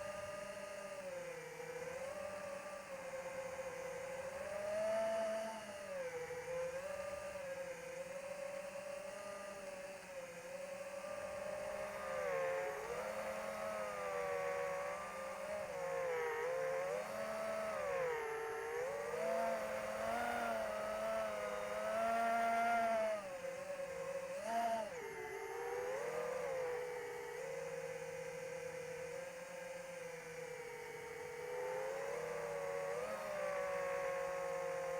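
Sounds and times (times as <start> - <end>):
electric motor and propeller whining: 0.0 - 34.9.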